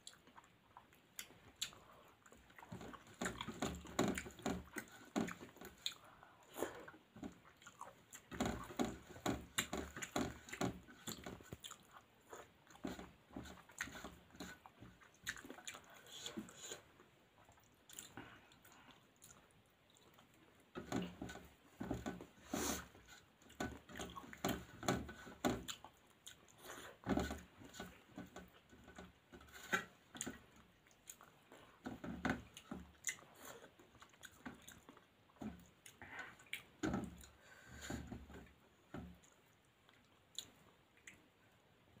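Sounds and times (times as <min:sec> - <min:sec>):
person chewing food: 0:00.0 - 0:41.5.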